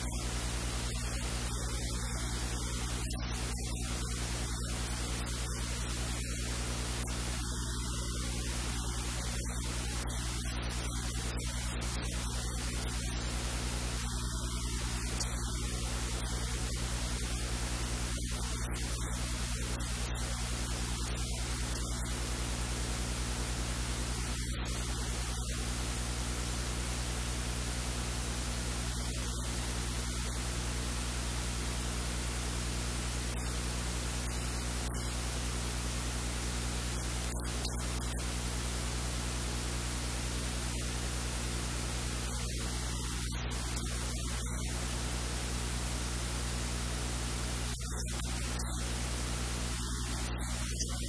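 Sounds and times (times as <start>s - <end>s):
hiss and static: 0.0s - 51.0s
low mains hum: 0.0s - 51.0s.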